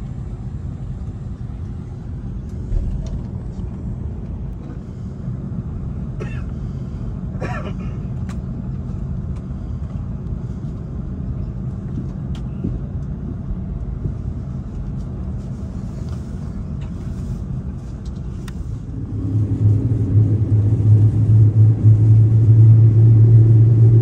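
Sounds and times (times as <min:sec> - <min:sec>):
aircraft engines idling rumble: 0:00.0 - 0:24.0.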